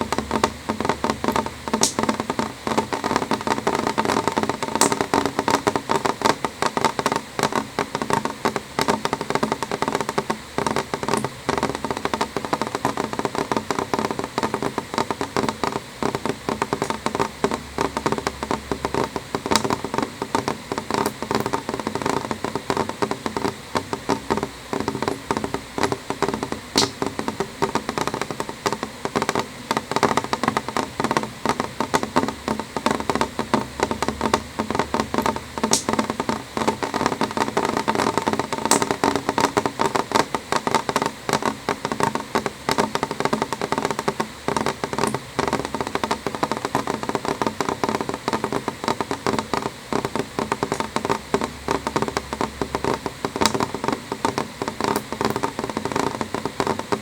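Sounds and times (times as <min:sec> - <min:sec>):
rain tapping on window glass: 0:00.0 - 0:57.0.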